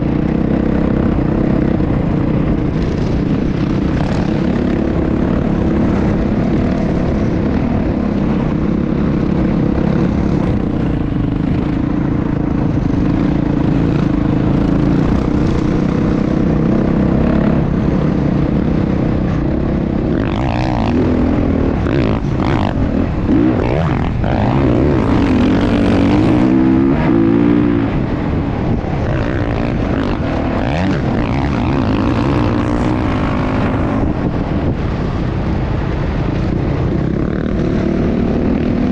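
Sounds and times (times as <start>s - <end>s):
motocross bike engine running: 0.0s - 34.6s.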